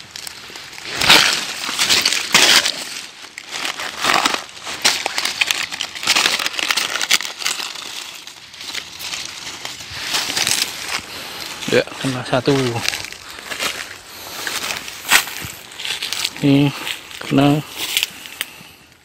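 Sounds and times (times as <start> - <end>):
dry leaves rustling and crunching: 0.0 - 18.8.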